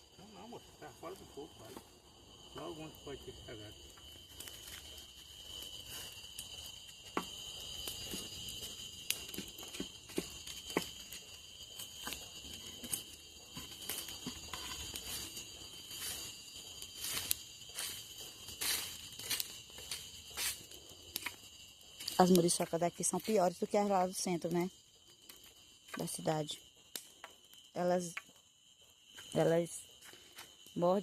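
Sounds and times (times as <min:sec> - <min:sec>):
night insects chirring: 0:00.0 - 0:31.0.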